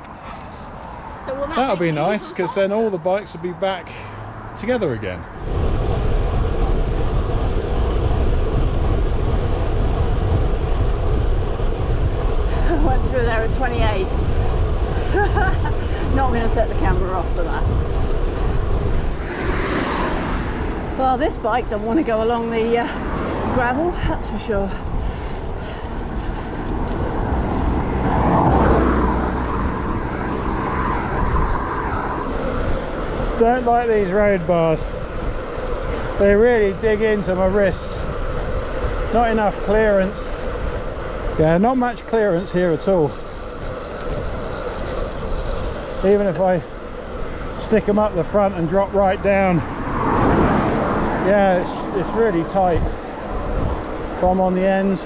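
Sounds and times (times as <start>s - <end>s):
wind buffeting microphone: 0.0s - 55.0s
bicycle tyres rolling on road: 3.1s - 55.0s.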